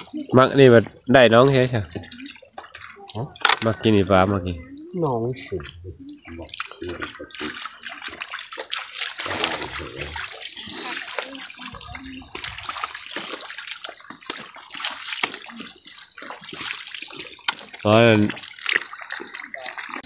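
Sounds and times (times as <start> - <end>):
muddy water sloshing and splashing: 0.0 - 20.0.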